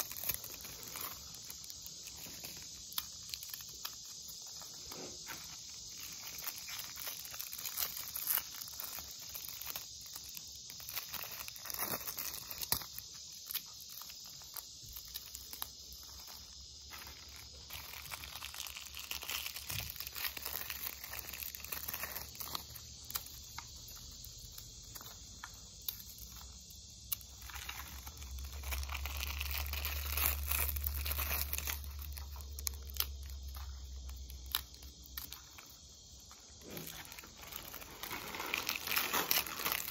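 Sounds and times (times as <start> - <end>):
food packaging crinkling and tearing: 0.0 - 39.9
insect chorus: 0.0 - 39.9.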